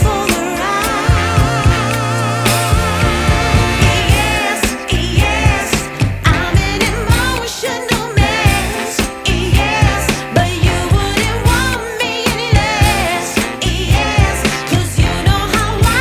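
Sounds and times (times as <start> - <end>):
pop soul song with vocals: 0.0 - 16.0.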